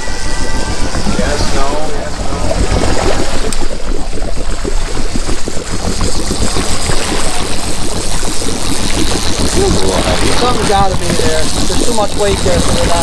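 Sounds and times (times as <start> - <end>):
boat engine rumbling: 0.0 - 13.0
water rushing along hull: 0.0 - 13.0.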